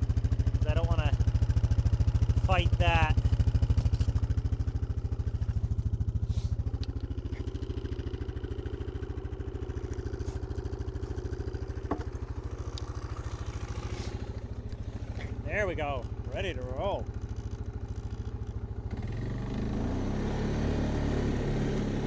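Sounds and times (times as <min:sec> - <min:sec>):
off-road vehicle engine idling: 0:00.0 - 0:22.0.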